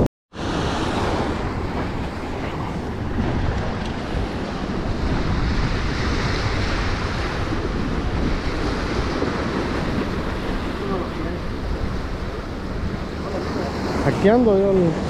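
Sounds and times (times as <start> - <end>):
wind buffeting microphone: 0.0 - 15.0
waves breaking against rocks: 0.4 - 15.0.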